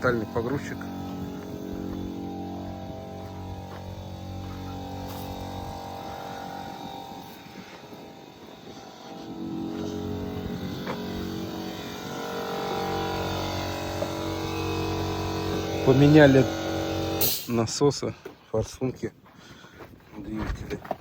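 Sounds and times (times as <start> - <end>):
diesel engine running: 0.0 - 17.5.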